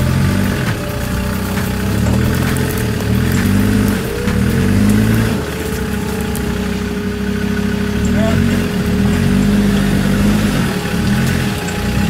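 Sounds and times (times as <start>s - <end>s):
engine revving: 0.0s - 12.0s
steady whine: 0.0s - 12.0s.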